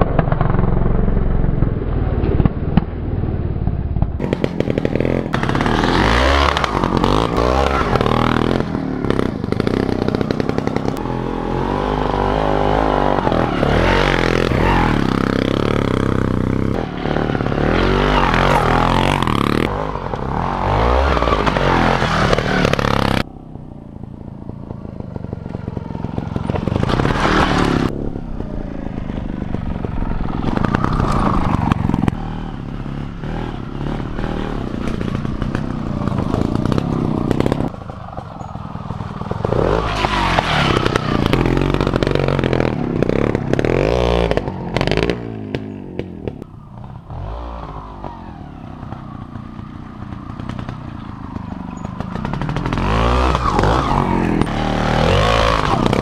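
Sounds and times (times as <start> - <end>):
two-stroke motorbike engine revving: 4.1 - 56.0.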